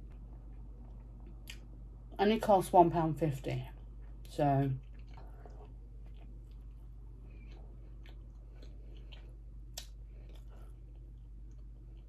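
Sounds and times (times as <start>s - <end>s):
person chewing bread: 0.1s - 1.8s, 3.8s - 12.0s.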